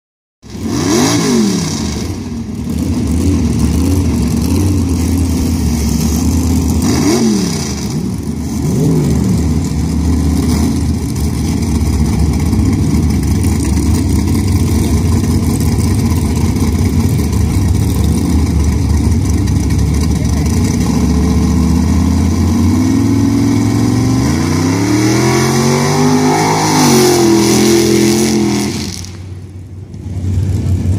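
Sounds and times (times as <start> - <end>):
loud truck engine revving: 0.5 - 29.6.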